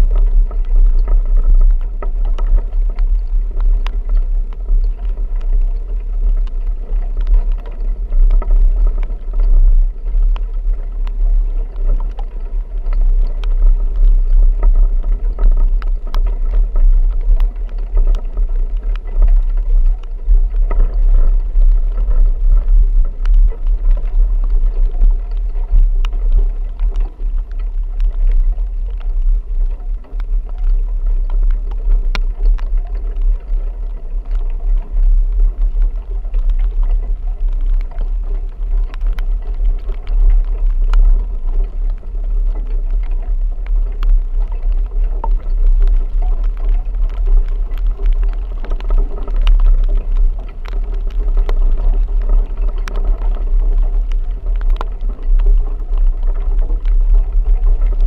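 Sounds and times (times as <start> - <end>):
deep engine and road rumble: 0.0 - 58.0
rain ticking on vehicle: 0.0 - 58.0.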